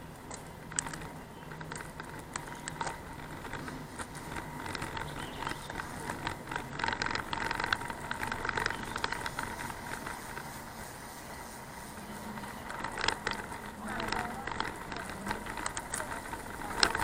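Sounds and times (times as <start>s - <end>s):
bicycle rattling and clicking: 0.0s - 17.0s
road noise: 0.0s - 17.0s.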